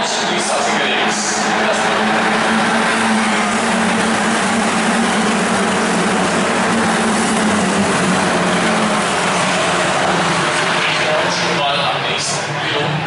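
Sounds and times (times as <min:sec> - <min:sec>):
racing car engines at speed: 0:00.0 - 0:13.0.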